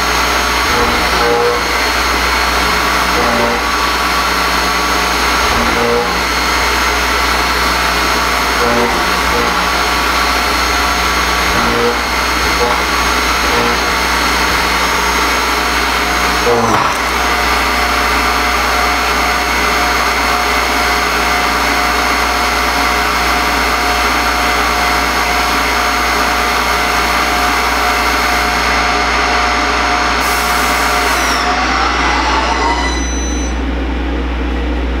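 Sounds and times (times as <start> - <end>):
milling machine spindle whine: 0.0 - 35.0.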